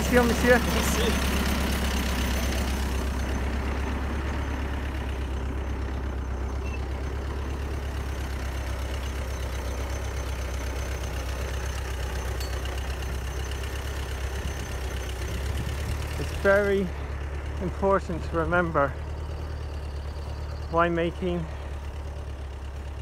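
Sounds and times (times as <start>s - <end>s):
tractor engine humming: 0.0s - 23.0s.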